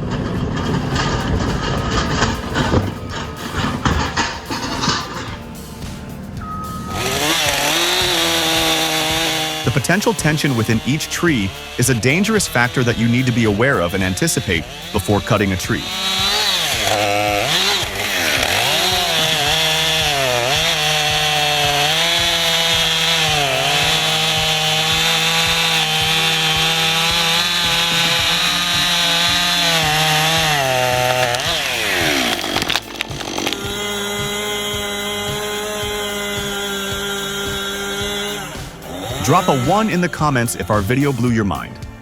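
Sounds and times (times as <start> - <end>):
steady machine hum: 0.0 - 40.6
chainsaw cutting: 0.0 - 42.0.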